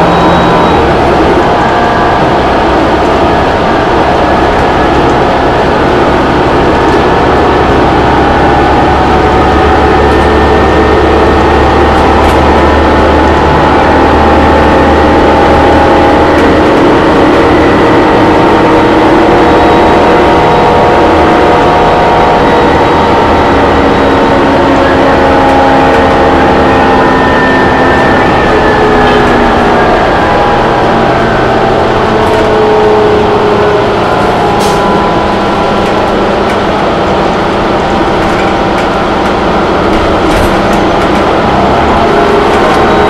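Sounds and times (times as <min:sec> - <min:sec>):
bus engine drone: 0:00.0 - 0:43.0
road noise: 0:00.0 - 0:43.0.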